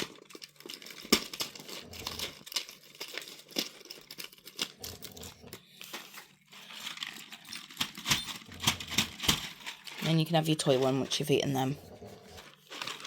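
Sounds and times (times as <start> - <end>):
cardboard tearing and crinkling: 0.0 - 11.3, 11.9 - 13.0.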